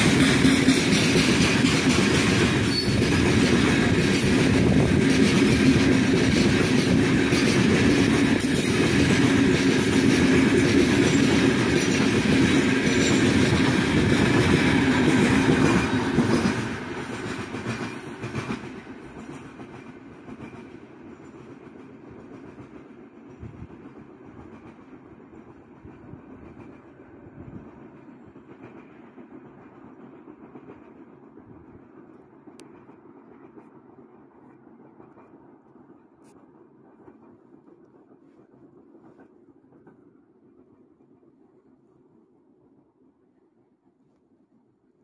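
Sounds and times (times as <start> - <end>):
freight train wheels on rails: 0.0 - 43.7.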